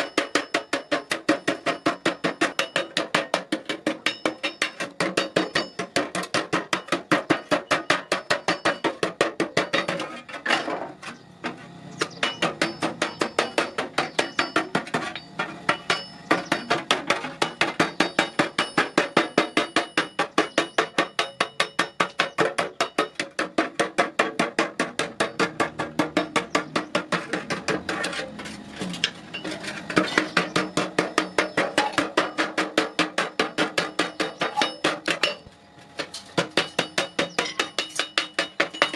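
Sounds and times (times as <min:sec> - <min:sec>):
hammer striking metal: 0:00.0 - 0:10.8, 0:12.0 - 0:38.9.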